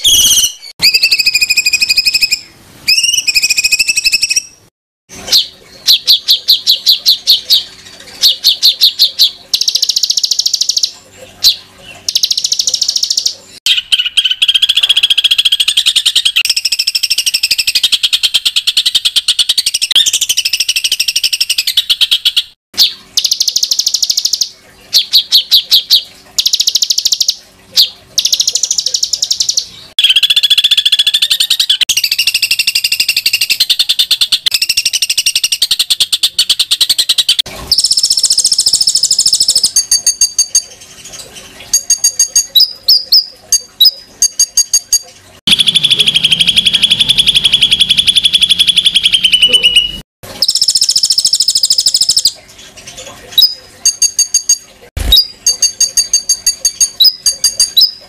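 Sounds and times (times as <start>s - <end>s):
sharp repeated bird notes: 0.0s - 40.7s, 41.7s - 52.4s, 53.4s - 58.0s
songbird rattling trills: 5.3s - 58.0s.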